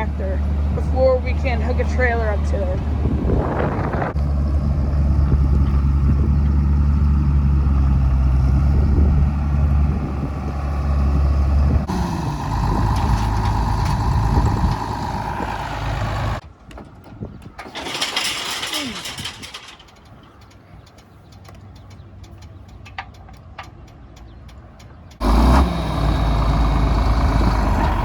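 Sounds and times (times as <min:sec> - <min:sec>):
tractor engine idling: 0:00.0 - 0:16.4, 0:17.6 - 0:28.0.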